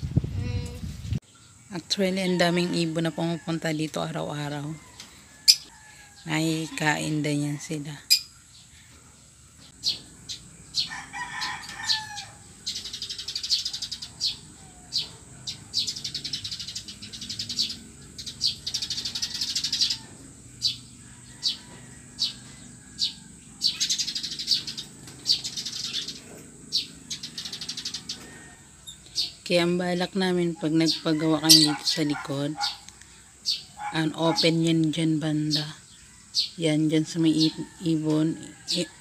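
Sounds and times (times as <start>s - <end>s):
birds chirping: 0.4s - 39.0s.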